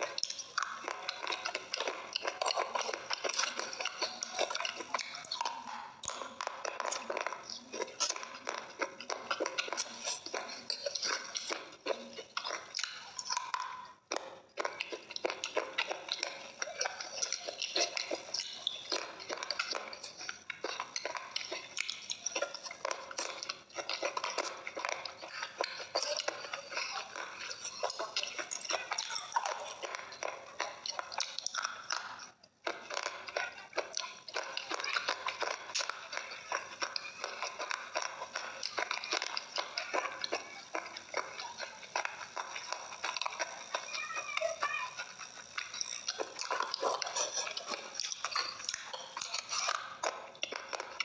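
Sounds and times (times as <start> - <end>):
crunching and chewing: 0.0 - 51.0.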